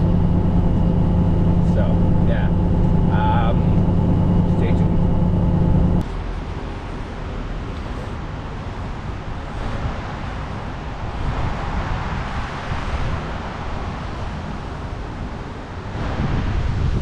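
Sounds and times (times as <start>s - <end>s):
rushing noise: 0.0s - 17.0s
vehicle road and engine noise: 0.0s - 17.0s.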